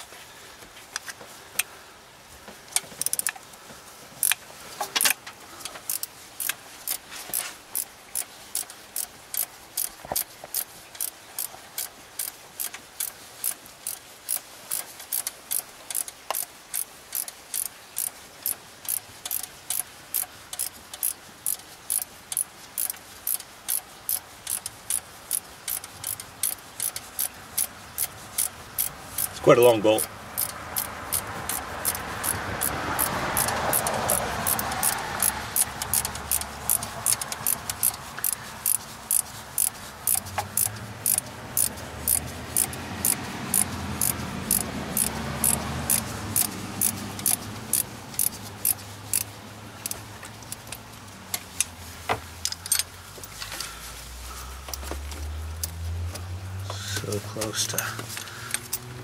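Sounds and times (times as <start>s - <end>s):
ratcheting wrench clicking: 2.8s - 3.4s, 4.2s - 4.4s, 5.0s - 51.7s, 52.4s - 53.7s, 55.6s - 55.8s, 56.7s - 58.9s.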